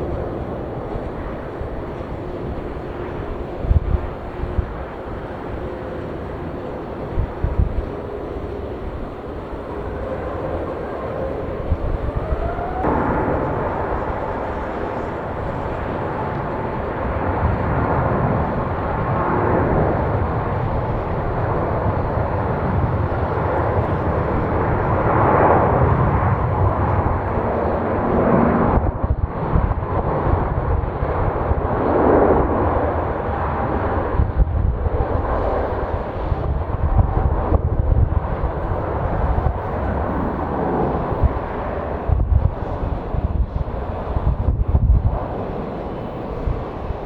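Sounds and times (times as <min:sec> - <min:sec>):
jet airliner passing: 0:00.0 - 0:47.0
jet engine whine: 0:00.0 - 0:47.0.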